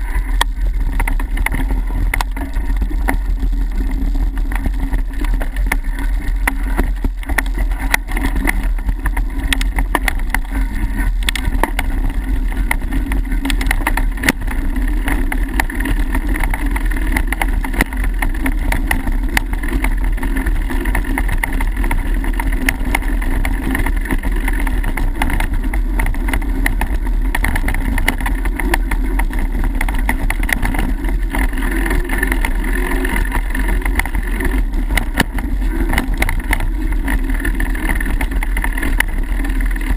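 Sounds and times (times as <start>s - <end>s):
bike clicks and rattles: 0.0s - 39.9s
tyres rumbling on dirt: 0.0s - 39.9s.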